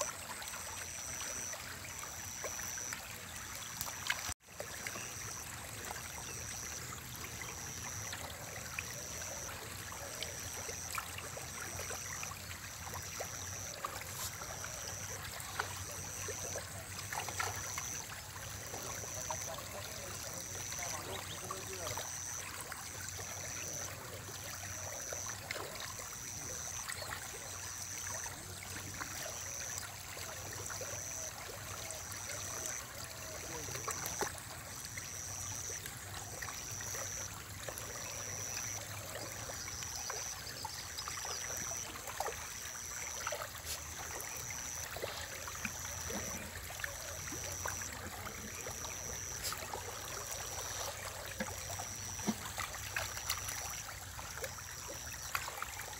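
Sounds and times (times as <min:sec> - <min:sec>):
small splashes of fish feeding: 0:00.0 - 0:55.9
water trickling: 0:00.0 - 0:55.9.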